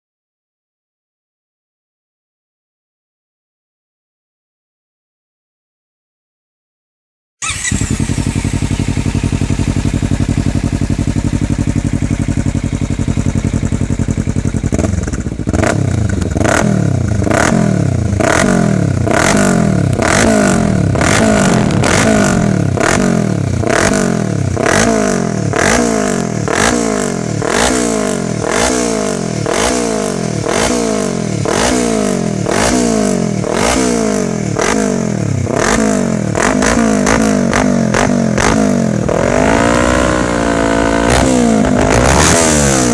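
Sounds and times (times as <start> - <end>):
motorcycle engine idling and revving: 7.4 - 42.9.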